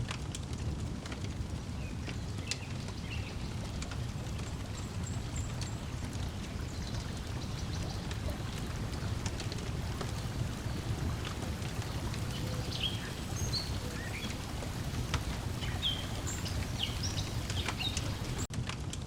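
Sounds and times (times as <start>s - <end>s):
wood fire crackling: 0.0s - 19.0s
lake water lapping: 1.4s - 18.5s
birds chirping: 1.8s - 18.5s.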